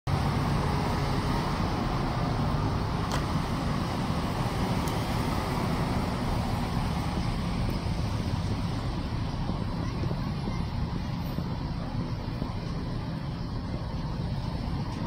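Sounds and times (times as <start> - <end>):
street traffic: 0.1 - 15.0.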